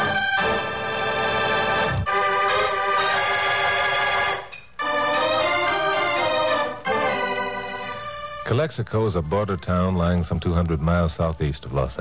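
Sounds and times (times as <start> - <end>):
organ playing held chords: 0.0 - 10.0.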